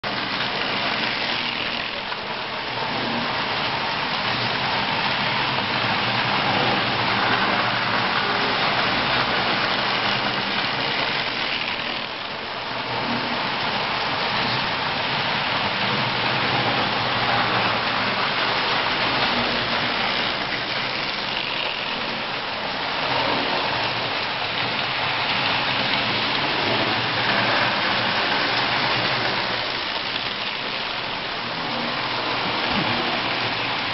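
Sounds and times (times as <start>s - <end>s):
toy train rattling on metal track: 0.0s - 33.9s.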